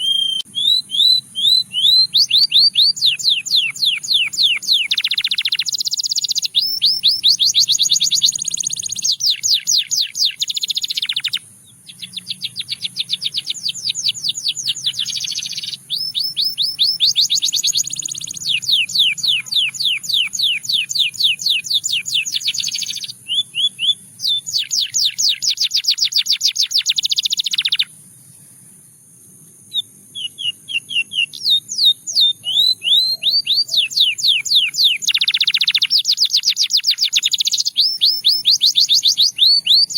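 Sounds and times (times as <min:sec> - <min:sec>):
canary singing trills: 0:00.0 - 0:28.8, 0:29.6 - 0:39.9.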